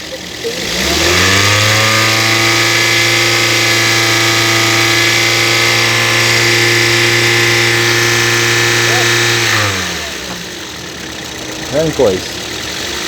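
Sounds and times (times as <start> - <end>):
car engine running at raised speed: 0.0 - 13.0
constant whining tone: 0.0 - 13.0.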